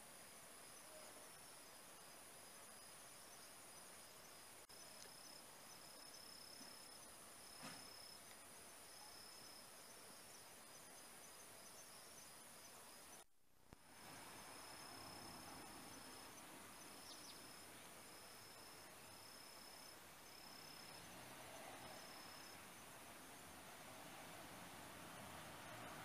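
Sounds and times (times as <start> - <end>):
quiet outdoor background noise: 0.0 - 26.0.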